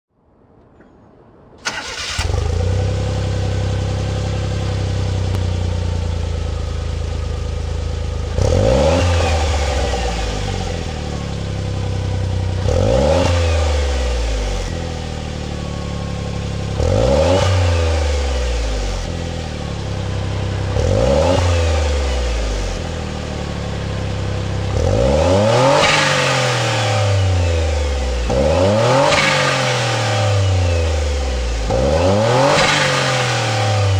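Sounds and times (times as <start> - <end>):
car engine idling and revving: 1.6 - 33.9.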